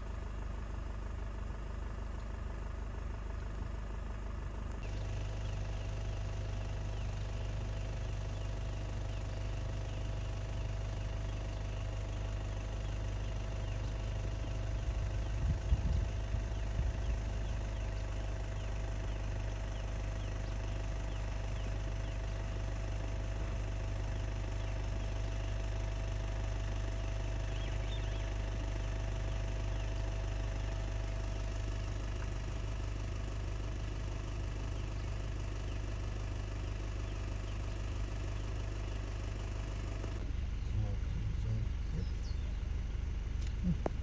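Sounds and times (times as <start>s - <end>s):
car engine idling: 0.0s - 44.0s
faint steady hum: 0.0s - 44.0s.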